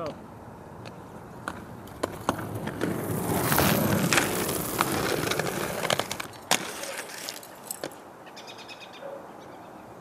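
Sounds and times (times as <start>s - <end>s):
skate wheels rolling on asphalt: 0.1s - 8.2s.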